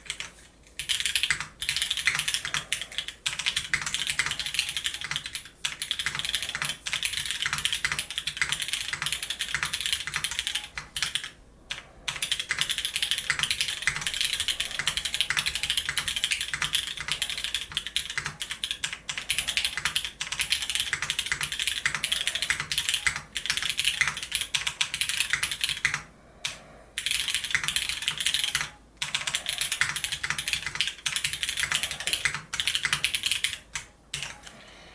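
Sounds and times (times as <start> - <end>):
mechanical keyboard typing: 0.0 - 34.6.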